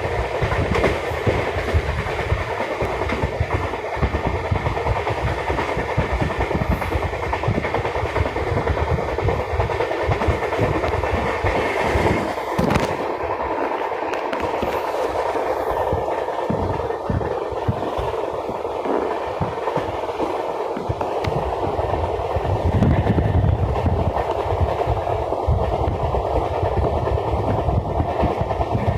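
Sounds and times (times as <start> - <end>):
train wheels clickety-clack: 0.0 - 28.9.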